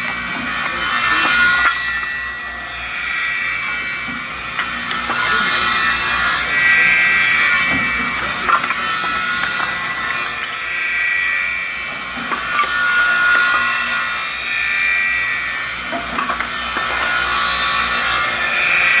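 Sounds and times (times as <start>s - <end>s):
saw blade whine: 0.0s - 19.0s.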